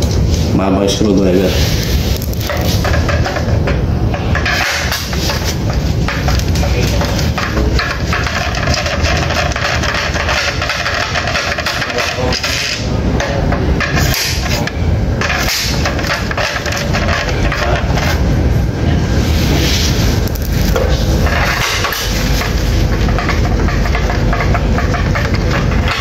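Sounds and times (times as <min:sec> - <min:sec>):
tools knocking and scraping plastic: 0:02.4 - 0:18.2, 0:20.2 - 0:26.0.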